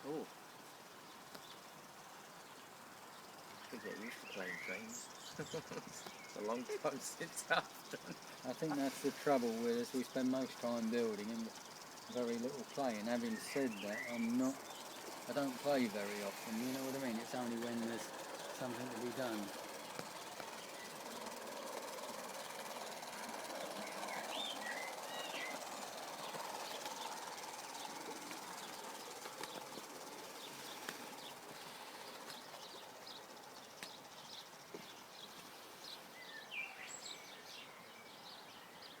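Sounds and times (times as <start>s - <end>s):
birds chirping: 0.0s - 39.0s
model train motor humming: 2.7s - 36.2s.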